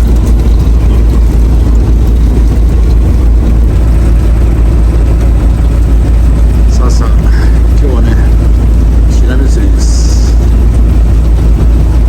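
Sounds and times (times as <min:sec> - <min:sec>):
engine running with low rumble: 0:00.0 - 0:12.0.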